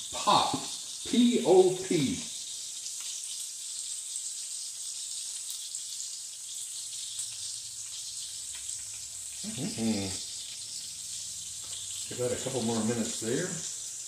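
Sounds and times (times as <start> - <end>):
burger patties sizzling in grease: 0.0 - 14.0.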